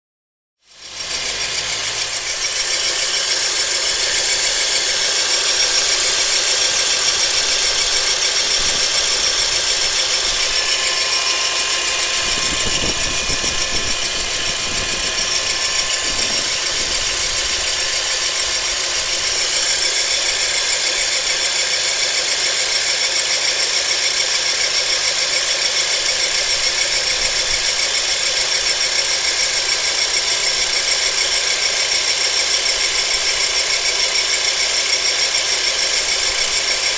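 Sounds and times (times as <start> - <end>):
car engine running: 0.7 - 36.9
high-pitched whine: 0.7 - 36.9.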